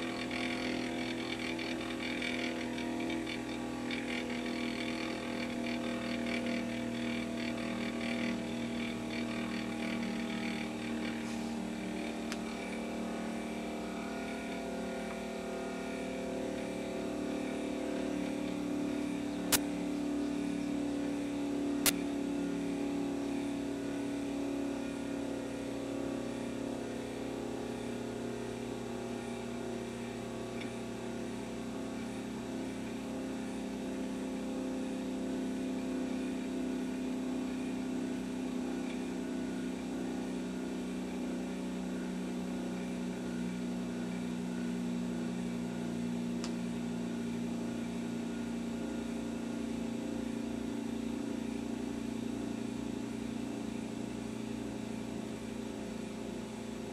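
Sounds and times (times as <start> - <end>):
gyroscope spinning hum: 0.0 - 56.9.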